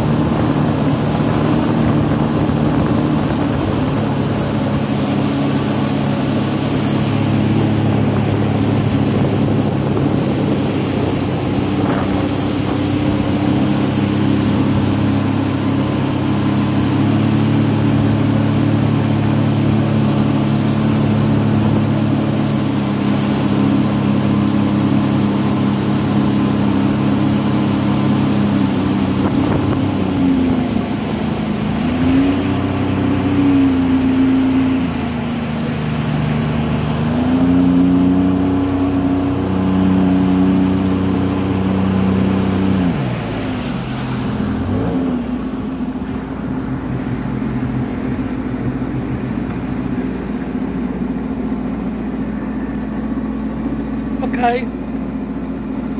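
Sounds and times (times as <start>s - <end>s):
water rushing and jet spray: 0.0s - 55.9s
watercraft engine running: 0.0s - 55.9s.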